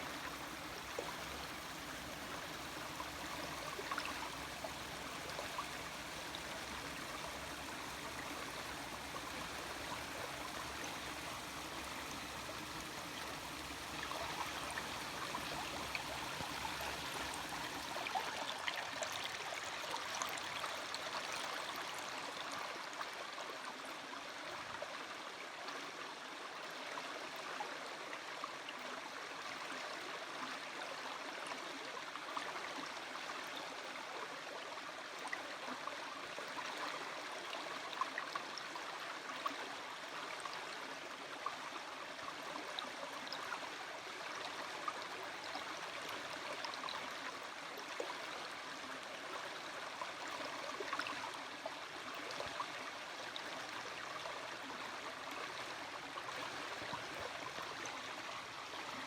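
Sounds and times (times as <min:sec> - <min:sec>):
stream water running: 0:00.0 - 0:59.0.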